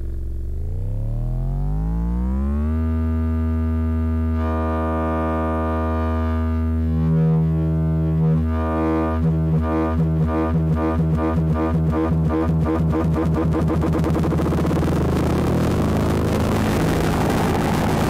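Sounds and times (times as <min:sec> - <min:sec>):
pulsing synthesizer drone: 0:00.0 - 0:18.0.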